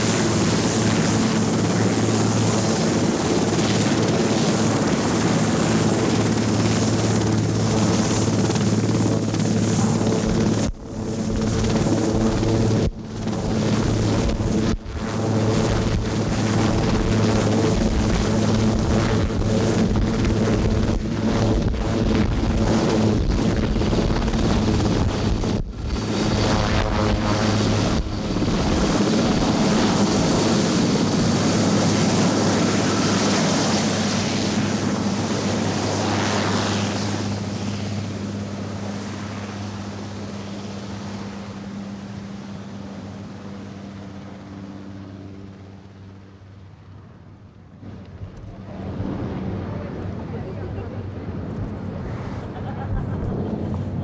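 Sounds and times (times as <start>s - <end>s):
helicopter rotor beating: 0.0s - 46.9s
high turbine whine: 0.0s - 54.0s.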